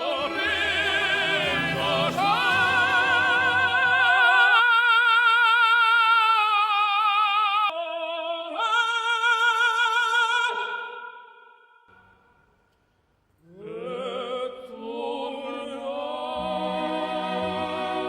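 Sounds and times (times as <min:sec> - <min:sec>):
operatic singing voice: 0:00.0 - 0:11.6, 0:13.4 - 0:18.0.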